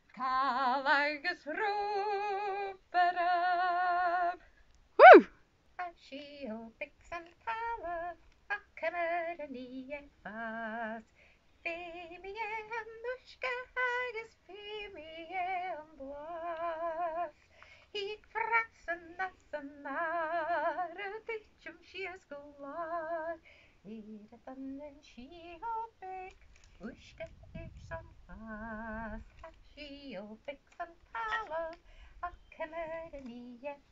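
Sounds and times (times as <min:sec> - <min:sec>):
woman singing unaccompanied: 0:00.0 - 0:33.9.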